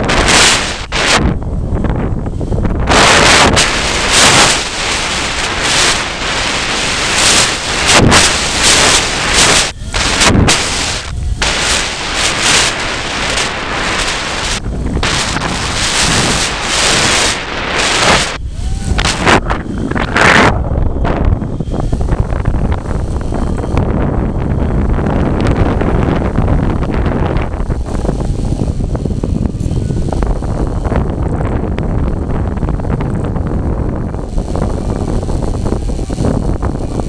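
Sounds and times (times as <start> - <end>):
gusty wind buffeting microphone: 0.0 - 37.0.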